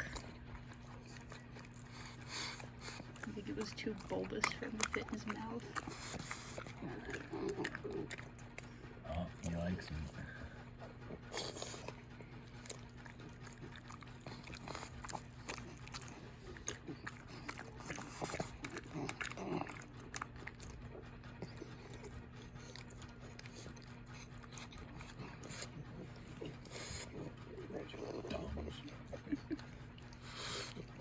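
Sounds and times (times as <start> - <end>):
dog chewing meat: 0.0 - 31.0
faint steady hum: 0.0 - 31.0.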